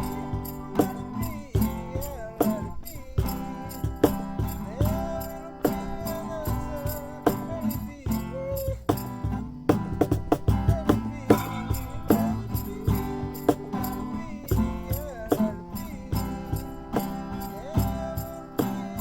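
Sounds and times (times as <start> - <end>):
person singing: 0.0 - 8.9, 10.5 - 19.0
strummed guitar: 0.0 - 19.0.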